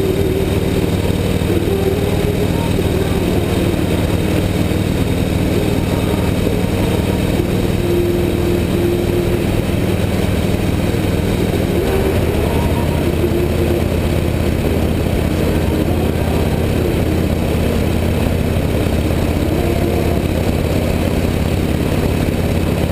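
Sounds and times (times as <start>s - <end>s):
motorcycle engine running: 0.0s - 22.9s
road noise: 0.0s - 22.9s.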